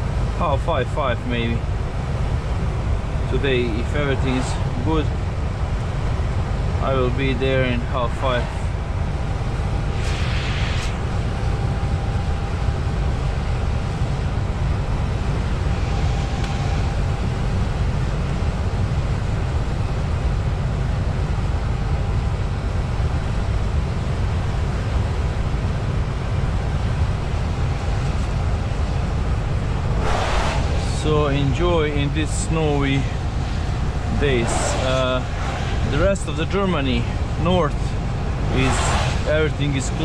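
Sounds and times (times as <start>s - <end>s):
faint whine: 0.0s - 40.0s
truck engine and road noise: 0.0s - 40.0s.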